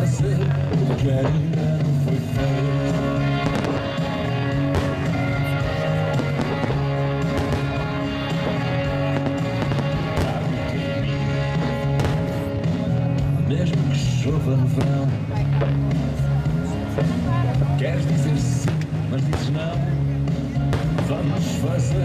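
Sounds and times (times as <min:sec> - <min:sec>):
fireworks bangs and crackles: 0:00.0 - 0:22.0
music with long held notes: 0:00.0 - 0:22.0.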